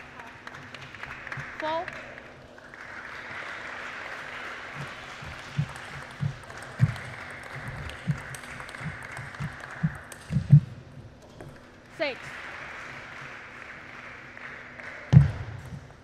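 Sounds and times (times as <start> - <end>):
crowd applauding: 0.0 - 10.8, 11.6 - 16.0.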